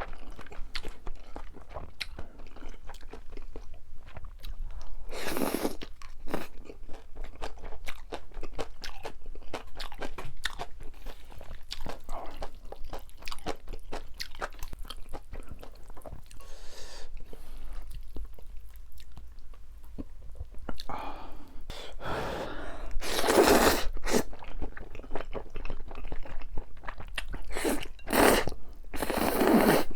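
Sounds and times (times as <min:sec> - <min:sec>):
crunchy chewing with mouth clicks: 0:00.0 - 0:21.0, 0:23.0 - 0:29.9.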